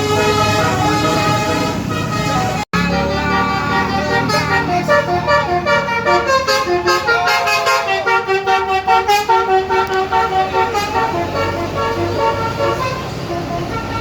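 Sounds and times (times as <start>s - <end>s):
musical bus horns playing a tune: 0.0s - 14.0s.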